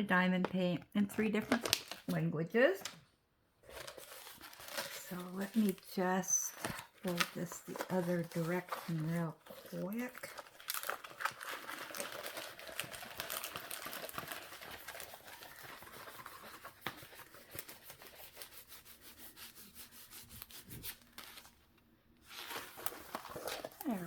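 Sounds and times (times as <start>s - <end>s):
plastic film crinkling: 1.3s - 2.2s, 3.6s - 21.6s, 22.2s - 24.0s.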